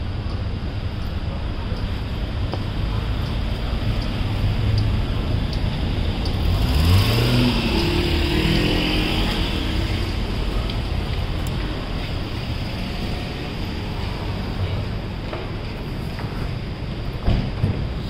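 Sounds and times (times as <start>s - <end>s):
street noise hum: 0.0s - 18.0s.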